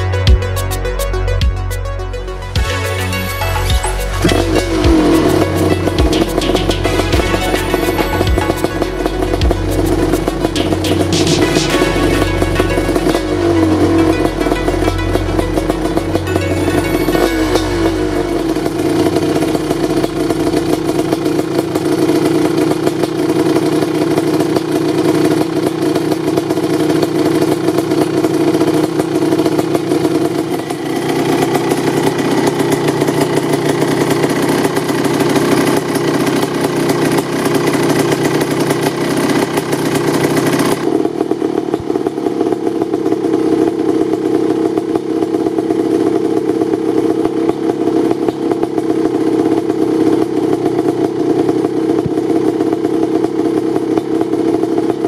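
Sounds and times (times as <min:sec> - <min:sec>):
two-stroke engine idling: 0:02.6 - 0:55.0.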